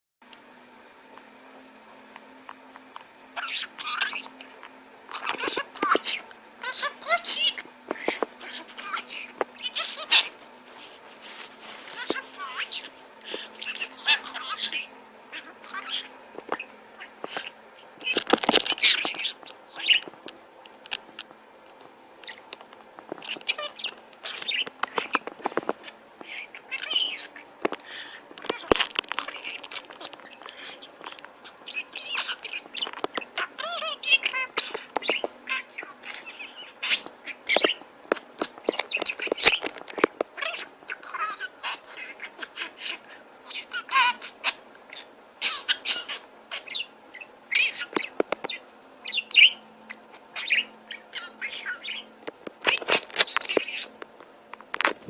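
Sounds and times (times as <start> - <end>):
parrot chattering calls: 2.9 - 10.4, 11.8 - 20.1, 23.2 - 54.0.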